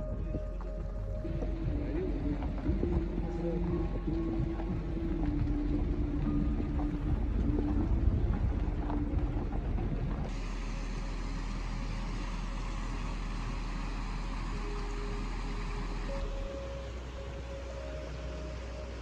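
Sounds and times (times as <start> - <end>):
vehicle driving on dirt track: 0.0 - 19.0.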